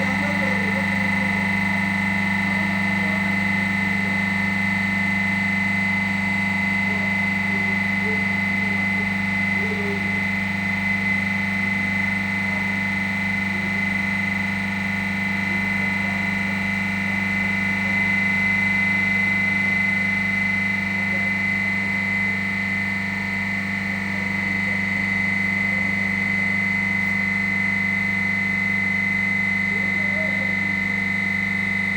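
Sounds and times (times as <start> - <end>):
compressor humming with whine: 0.0 - 31.9.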